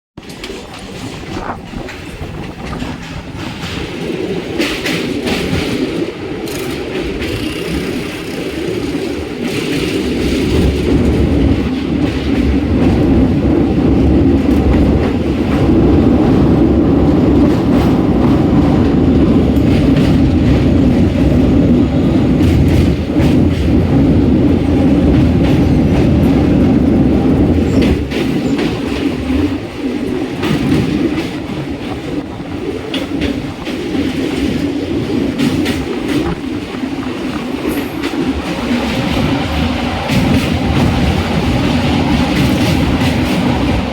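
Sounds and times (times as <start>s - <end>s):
rail clicks: 0.2s - 43.9s
train wheels rumbling on rails: 0.2s - 43.9s.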